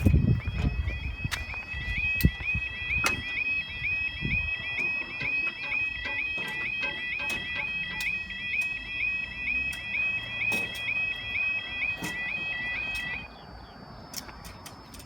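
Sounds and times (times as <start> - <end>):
level crossing alarm warbling: 0.0 - 13.7.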